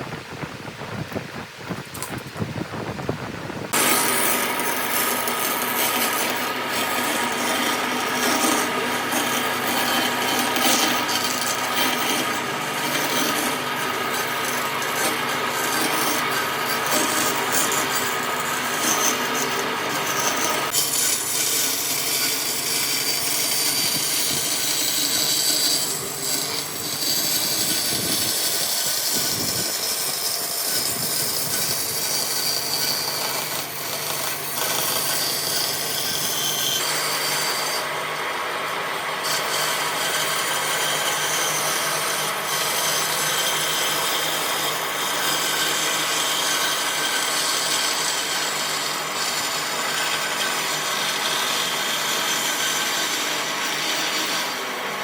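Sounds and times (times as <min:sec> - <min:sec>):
power tool sanding wood: 0:03.5 - 0:55.0.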